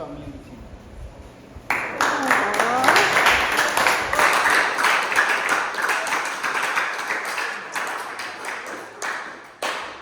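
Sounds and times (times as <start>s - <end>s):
small group applauding: 1.7s - 10.0s.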